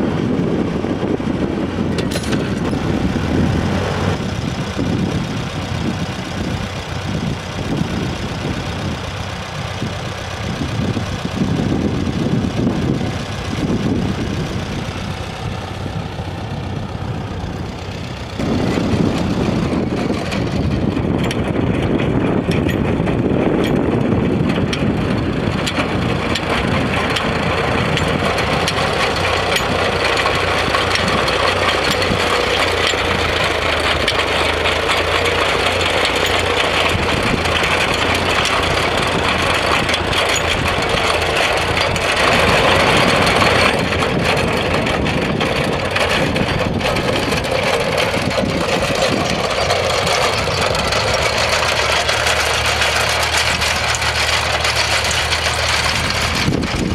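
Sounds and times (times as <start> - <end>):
metal digger rattling: 0.0 - 56.9
tractor engine running: 0.0 - 56.9.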